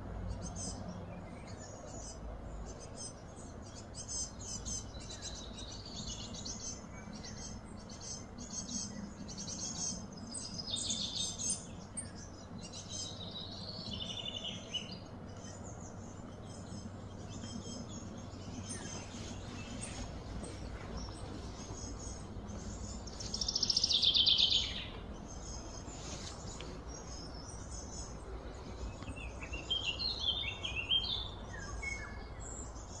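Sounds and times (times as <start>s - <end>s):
birds chirping: 0.0s - 33.0s
low background noise: 0.0s - 33.0s.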